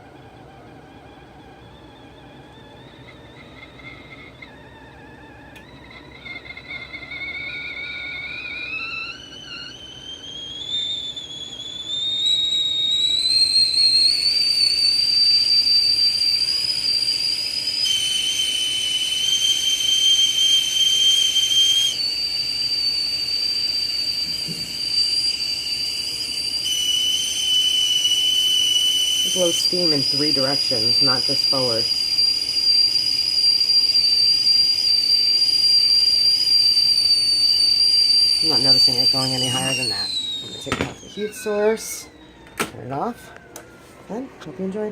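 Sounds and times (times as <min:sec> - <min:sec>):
tea kettle whistling: 0:00.0 - 0:44.9.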